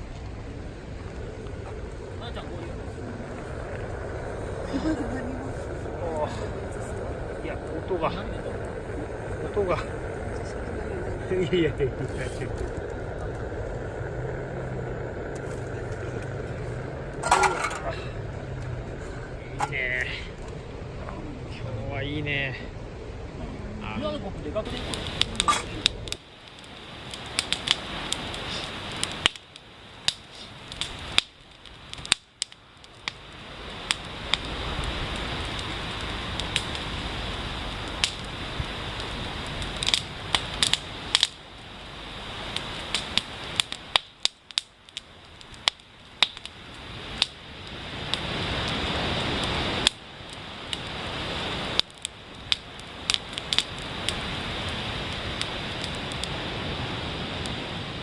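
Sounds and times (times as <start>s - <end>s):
fire hiss: 0.0s - 58.0s
wood fire crackling and popping: 0.0s - 58.0s.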